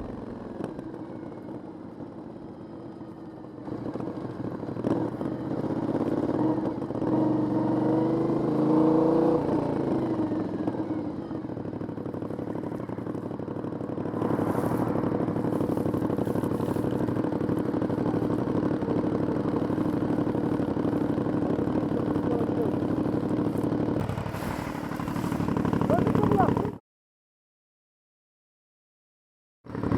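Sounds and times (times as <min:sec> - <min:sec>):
motorcycle engine accelerating: 0:00.0 - 0:26.8, 0:29.7 - 0:29.9.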